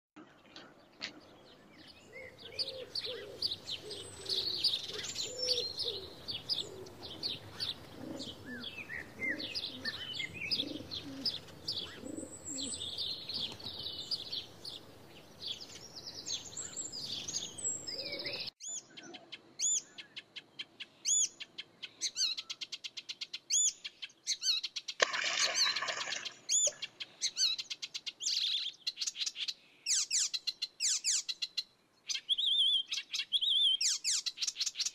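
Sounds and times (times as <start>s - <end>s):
birds chirping and twittering: 0.2s - 34.9s.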